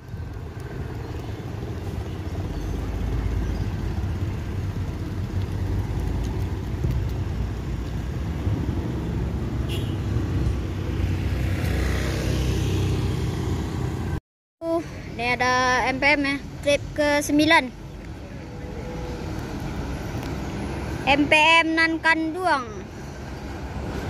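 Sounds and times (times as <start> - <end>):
car and bus engines rumbling: 0.0 - 24.0.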